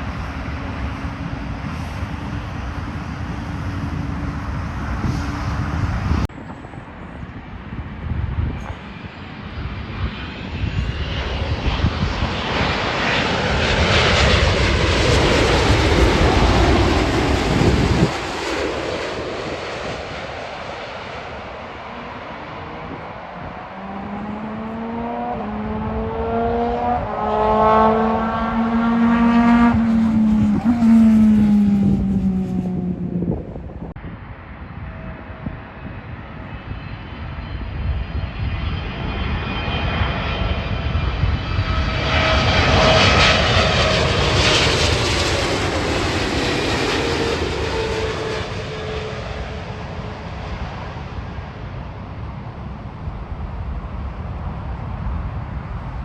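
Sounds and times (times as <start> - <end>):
jet airliner engines: 0.0 - 56.0.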